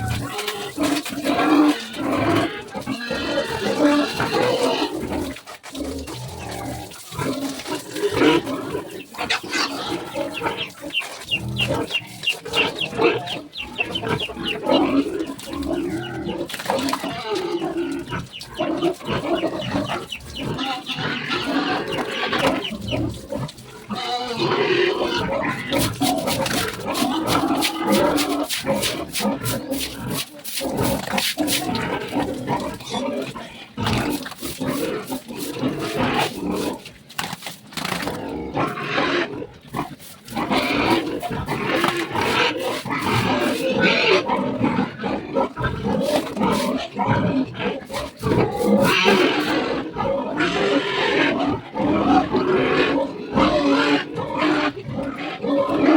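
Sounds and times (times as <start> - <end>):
pigs squealing and grunting: 0.0 - 55.9.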